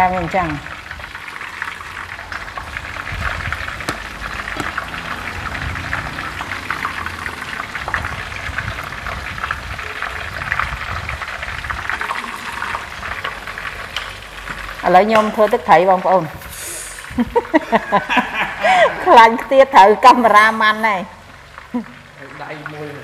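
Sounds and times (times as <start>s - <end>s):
shrimp sizzling in hot oil: 0.0s - 23.0s.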